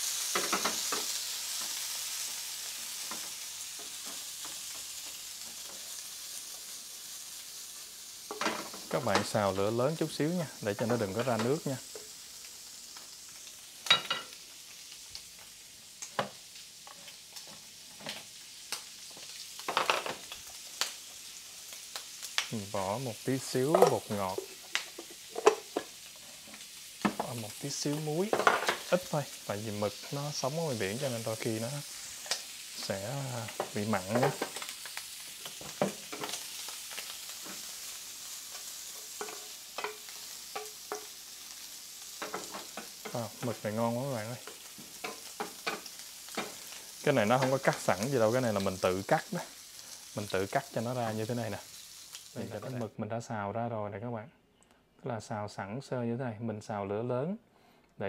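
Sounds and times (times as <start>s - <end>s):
squid sizzling in pan: 0.0s - 53.0s.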